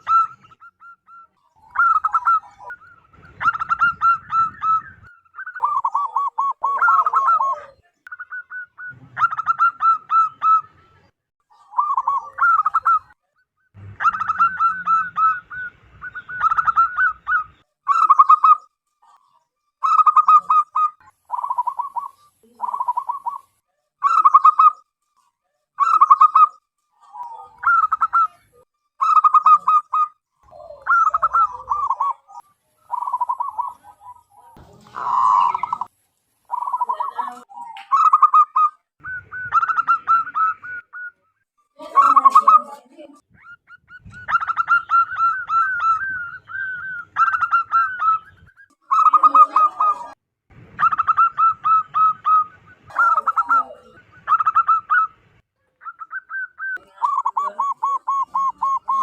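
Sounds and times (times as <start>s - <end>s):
dove cooing: 0.0s - 24.8s, 25.8s - 35.9s, 36.5s - 50.2s, 50.8s - 59.0s.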